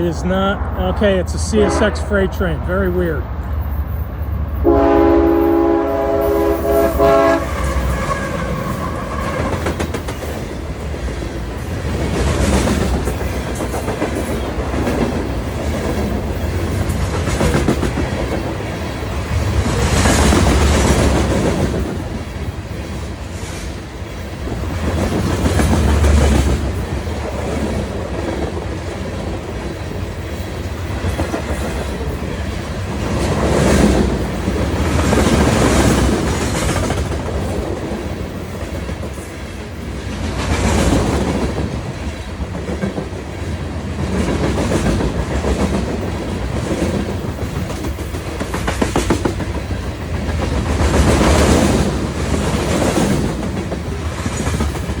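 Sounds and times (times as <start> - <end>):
freight train rumble: 0.0 - 55.0
train wheels clacking: 6.2 - 28.7, 29.4 - 55.0.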